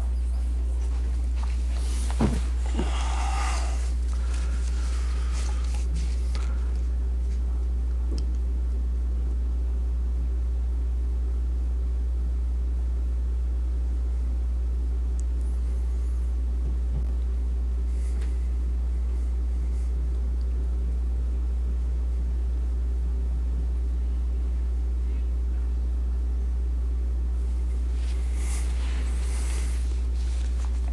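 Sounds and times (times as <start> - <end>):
low-pitched hum: 0.0 - 30.9.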